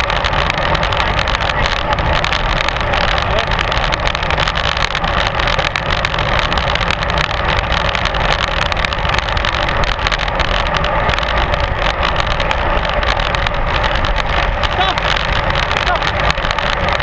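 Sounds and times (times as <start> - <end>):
tyre and road crackle: 0.0 - 17.0
wind rushing over microphone: 0.0 - 17.0.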